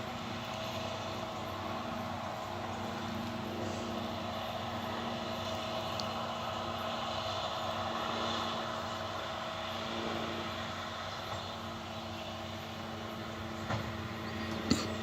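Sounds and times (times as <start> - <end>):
farm machinery engine drone: 0.0 - 15.0.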